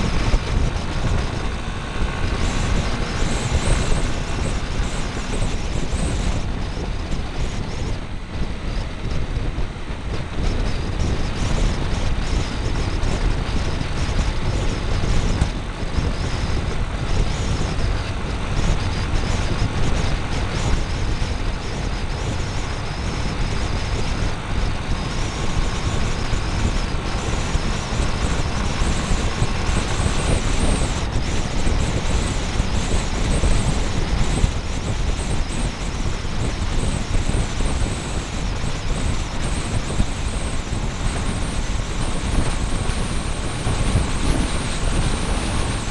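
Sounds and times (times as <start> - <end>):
motorbike engine and wind noise: 0.0 - 45.9.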